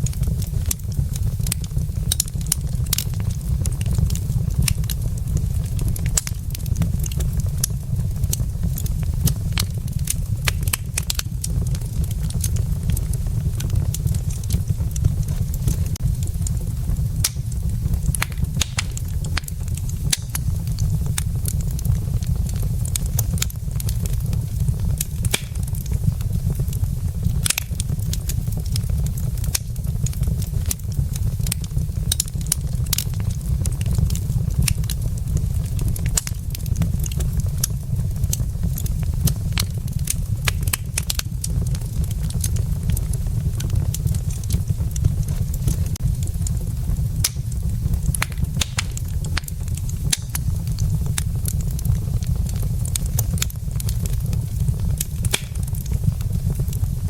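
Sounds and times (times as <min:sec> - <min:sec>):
fire low rumble: 0:00.0 - 0:57.0
logs crackling and popping: 0:00.0 - 0:57.0.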